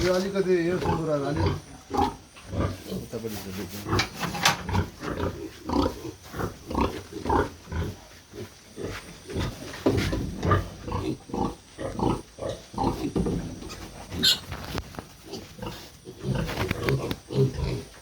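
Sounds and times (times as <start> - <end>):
pigs grunting: 0.0 - 14.6, 15.2 - 18.0.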